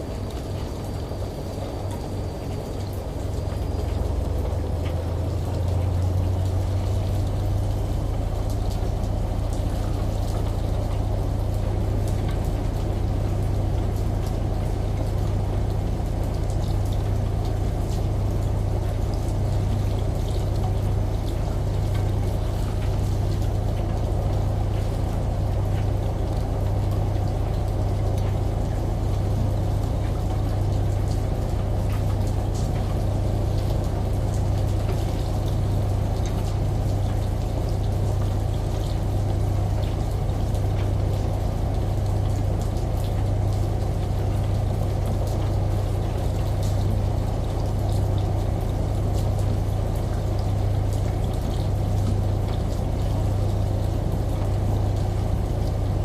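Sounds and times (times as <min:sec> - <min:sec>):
washing machine hum: 0:00.0 - 0:56.0.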